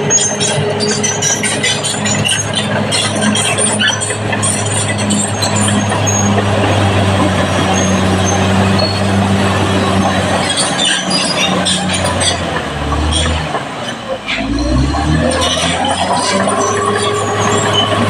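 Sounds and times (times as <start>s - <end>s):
bulldozer diesel engine running: 0.0s - 18.0s
steel tracks squeaking and clinking: 0.0s - 18.0s.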